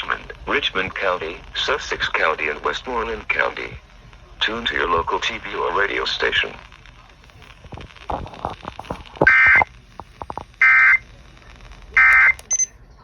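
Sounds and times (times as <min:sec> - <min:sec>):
radio static crackling: 0:00.0 - 0:12.7.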